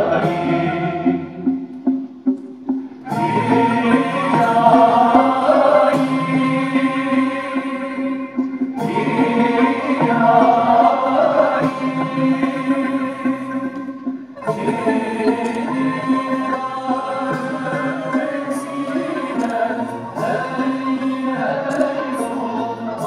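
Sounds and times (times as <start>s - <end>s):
group of voices chanting: 3.1s - 8.2s, 8.8s - 23.0s.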